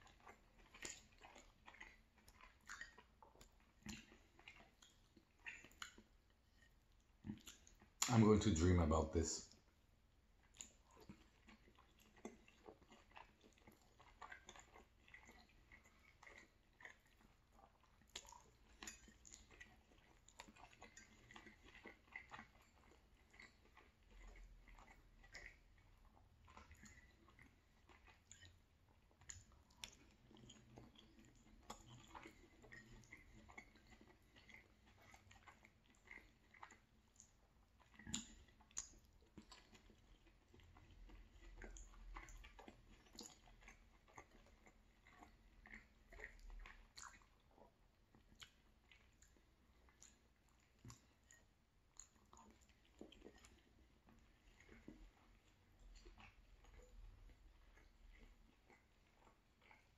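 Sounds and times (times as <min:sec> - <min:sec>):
chewing pasta: 0:00.0 - 0:59.9.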